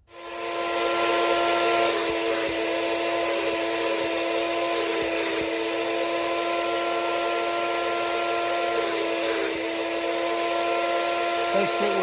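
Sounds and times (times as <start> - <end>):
turbine whining steadily: 0.0 - 12.0.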